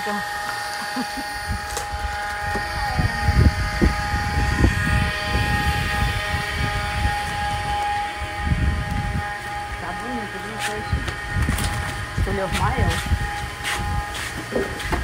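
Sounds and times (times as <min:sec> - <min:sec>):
wind buffeting microphone: 0:01.2 - 0:15.0.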